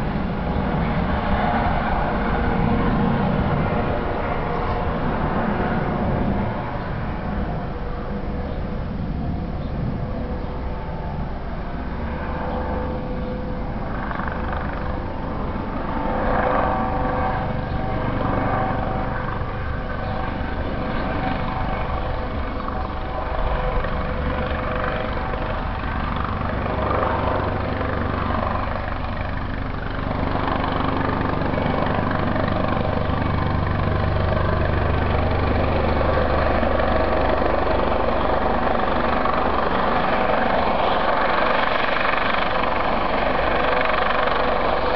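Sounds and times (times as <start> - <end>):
helicopter rotor chop: 0.0 - 44.9
helicopter whine: 0.0 - 44.9.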